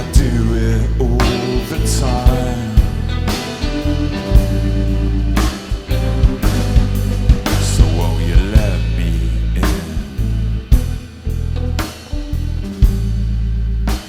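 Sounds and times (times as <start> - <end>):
electric guitar line gliding in pitch: 0.0 - 13.9
live rock band playing: 0.0 - 14.0.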